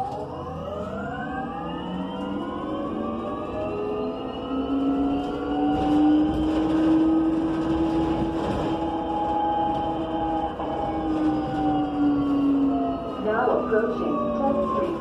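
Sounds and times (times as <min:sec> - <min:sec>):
electric bus motor whine: 0:00.0 - 0:15.0
low road rumble: 0:00.0 - 0:15.0.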